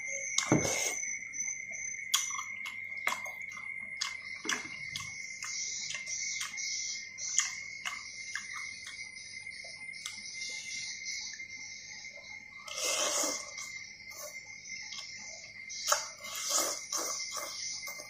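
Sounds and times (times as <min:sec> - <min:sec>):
high-pitched whine: 0:00.0 - 0:18.0.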